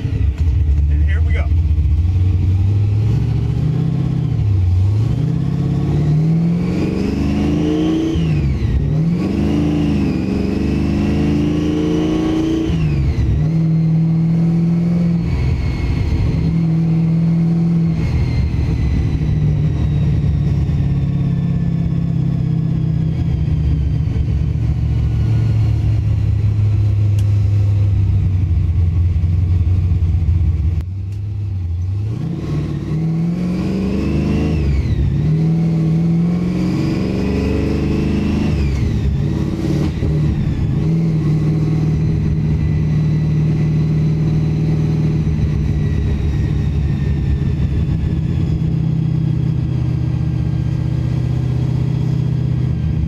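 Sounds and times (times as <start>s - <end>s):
car engine accelerating: 0.0s - 53.0s
supercharger whine: 0.0s - 53.0s.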